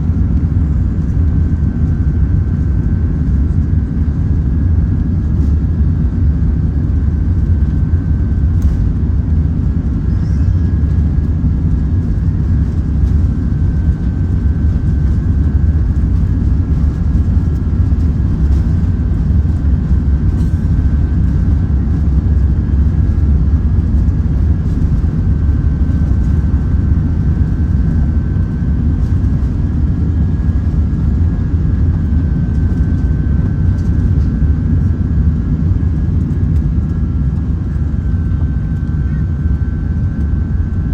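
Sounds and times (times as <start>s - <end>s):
aircraft cabin engine rumble: 0.0s - 40.9s
faint engine whine: 0.0s - 40.9s.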